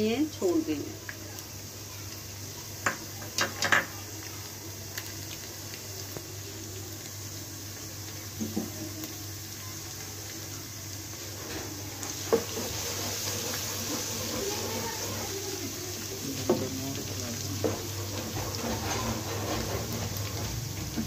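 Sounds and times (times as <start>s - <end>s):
garlic sizzling in hot oil: 0.0s - 21.0s.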